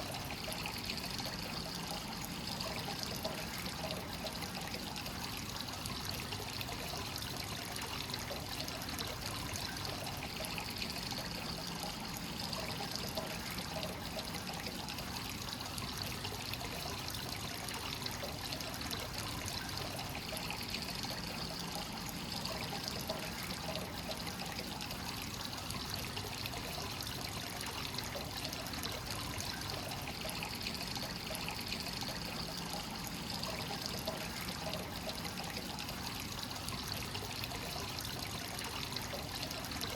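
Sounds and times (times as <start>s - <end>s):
water pouring into a rock bath: 0.0s - 39.9s.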